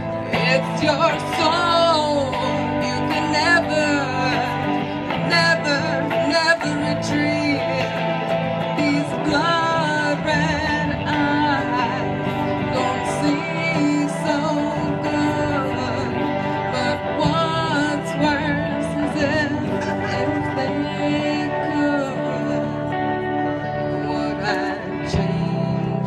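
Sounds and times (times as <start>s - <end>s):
amplified electric guitar: 0.0s - 26.0s
woman singing into microphone: 0.0s - 26.0s.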